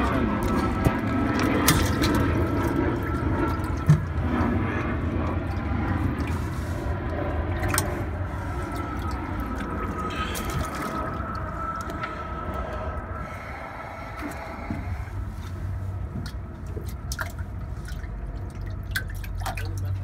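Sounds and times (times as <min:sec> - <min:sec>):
steady low hum: 0:00.0 - 0:20.0
water churning and splashing: 0:00.0 - 0:20.0.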